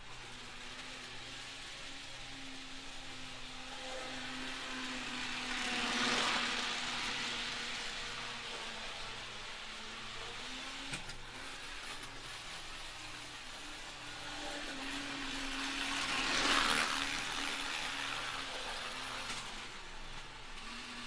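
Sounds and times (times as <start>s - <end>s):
model train motor humming: 0.0s - 21.0s
wheels rolling on plastic track: 0.0s - 21.0s.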